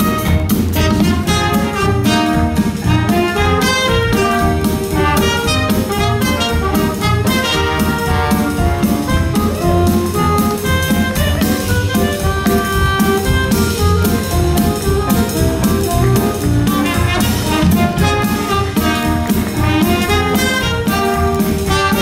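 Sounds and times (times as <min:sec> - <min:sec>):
big-band jazz music: 0:00.0 - 0:22.0.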